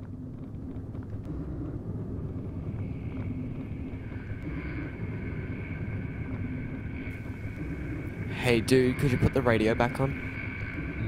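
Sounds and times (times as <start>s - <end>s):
engine and road rumble: 0.0s - 11.0s
faint high whine: 0.0s - 11.0s.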